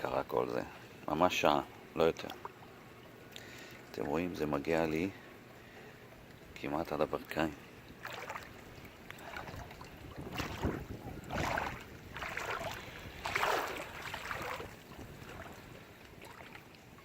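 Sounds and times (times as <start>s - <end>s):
legs wading through water: 0.0s - 17.0s.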